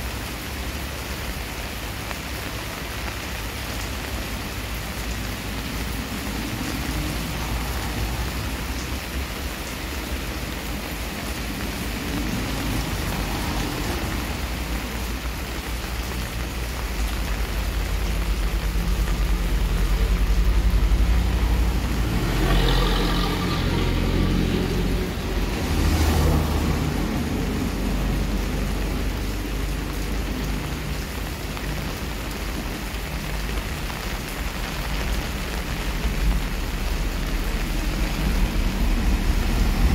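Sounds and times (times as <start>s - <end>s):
heavy rain splashing on concrete: 0.0s - 39.9s.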